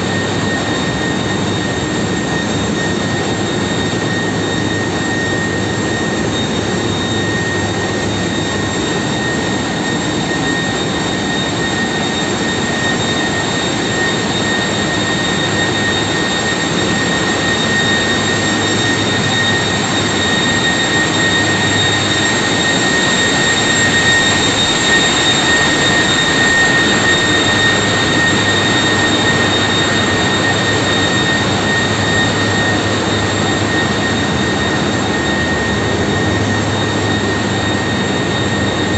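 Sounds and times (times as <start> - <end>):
engine room machinery roar: 0.0 - 38.9
high machinery whine: 0.0 - 38.9.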